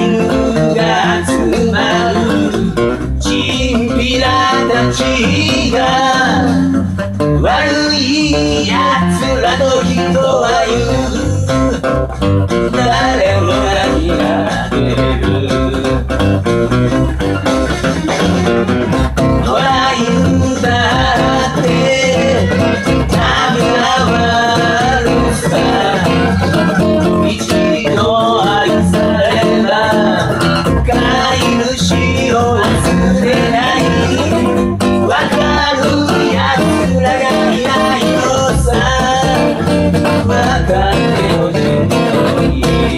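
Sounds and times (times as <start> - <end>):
man singing: 0.0 - 16.3, 17.9 - 42.9
acoustic guitar strumming: 0.0 - 42.9.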